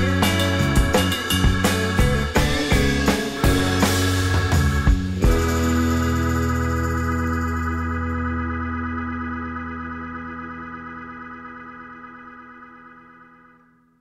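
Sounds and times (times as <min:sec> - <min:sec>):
held keyboard chord: 0:00.0 - 0:13.5.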